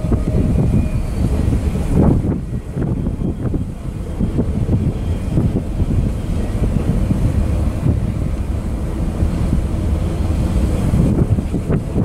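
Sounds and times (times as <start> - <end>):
steel wheels rumbling on rail: 0.0 - 12.0
wind buffeting microphone: 0.0 - 12.0.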